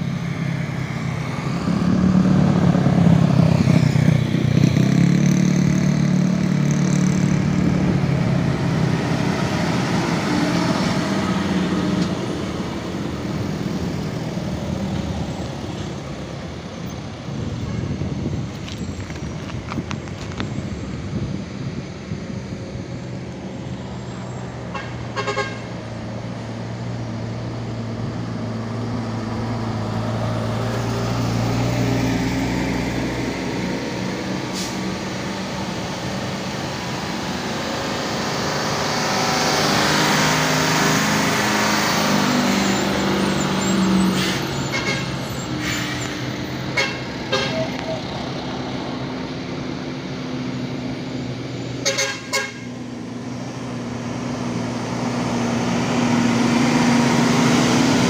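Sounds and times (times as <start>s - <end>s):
heavy trucks engine drone: 0.0s - 58.0s.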